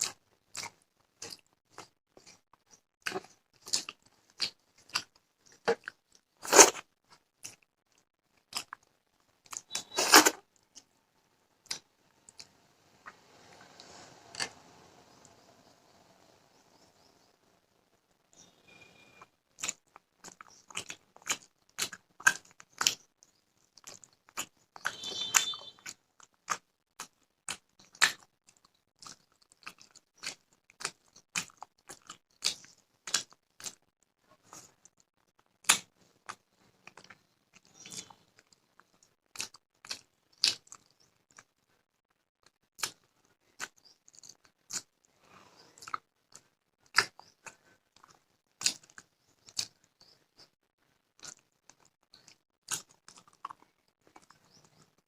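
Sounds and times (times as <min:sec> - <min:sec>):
person chewing crunchy food: 0:00.0 - 0:11.0, 0:11.6 - 0:15.2, 0:19.2 - 0:55.0.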